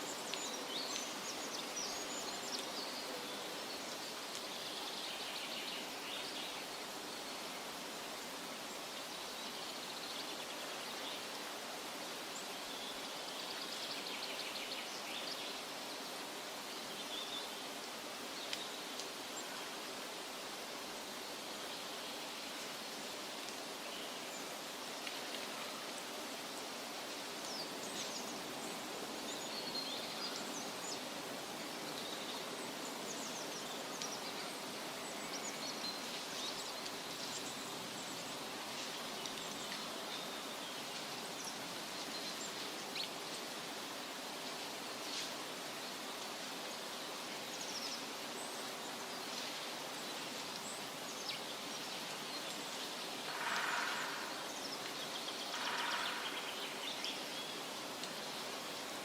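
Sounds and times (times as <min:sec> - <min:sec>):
steady forest hiss: 0:00.0 - 0:59.0.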